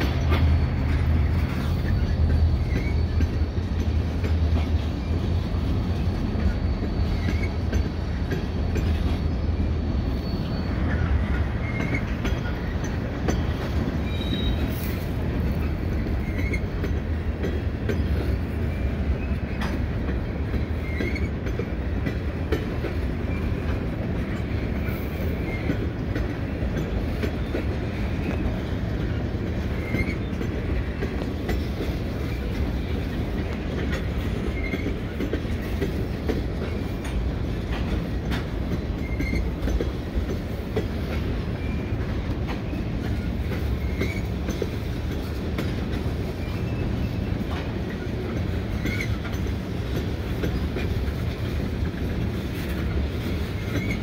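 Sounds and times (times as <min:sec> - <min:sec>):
wheel squeals: 0:00.0 - 0:03.9, 0:05.0 - 0:17.0, 0:17.9 - 0:21.6, 0:23.2 - 0:25.9, 0:26.5 - 0:40.0, 0:41.0 - 0:44.8, 0:45.7 - 0:49.5, 0:52.9 - 0:54.0
diesel locomotive engine hum: 0:00.0 - 0:54.0
train wheels clickety-clack: 0:00.0 - 0:54.0.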